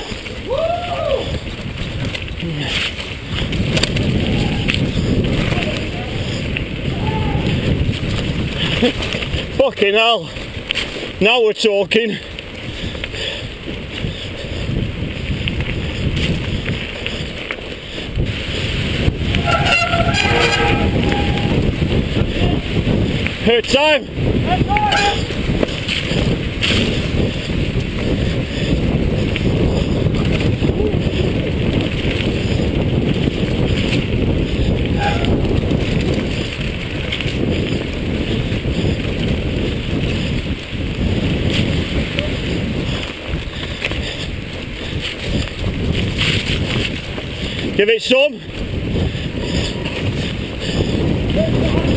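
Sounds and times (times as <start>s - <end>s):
bike tyres and frame rattling: 0.0s - 51.9s
wind rushing over camera: 0.0s - 51.9s.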